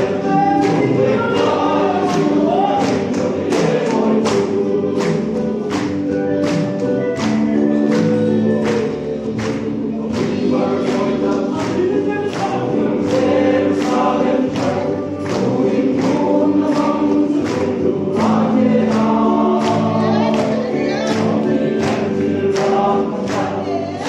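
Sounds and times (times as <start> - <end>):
men's choir singing gospel: 0.0 - 24.0.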